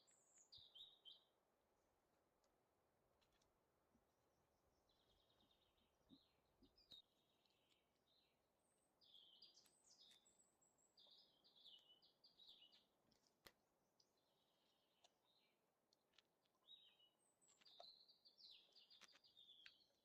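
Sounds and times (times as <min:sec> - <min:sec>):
songbird singing: 0:00.0 - 0:01.4, 0:04.6 - 0:20.0
quiet forest background: 0:00.0 - 0:20.0.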